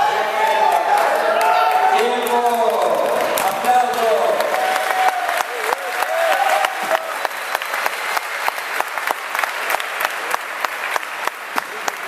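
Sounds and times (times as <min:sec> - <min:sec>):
crowd applauding: 0:00.0 - 0:12.0
sharp individual claps: 0:02.2 - 0:12.0.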